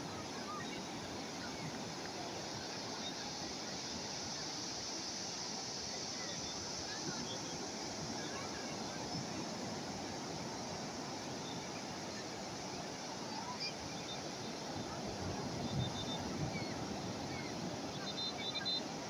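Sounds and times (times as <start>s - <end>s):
calm sea waves washing on shore: 0.0s - 19.0s.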